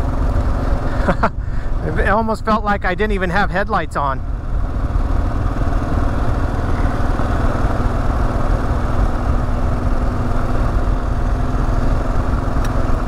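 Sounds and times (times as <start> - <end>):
motorcycle engine humming: 0.0 - 13.0
wind and road noise: 0.0 - 13.0.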